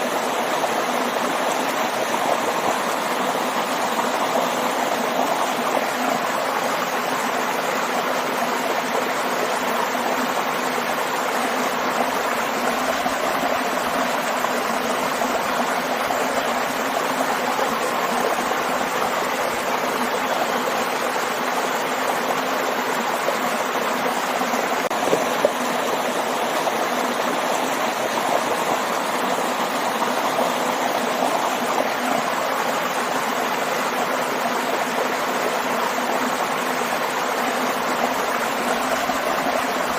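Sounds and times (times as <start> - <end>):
water rushing over small waterfall: 0.0 - 39.9.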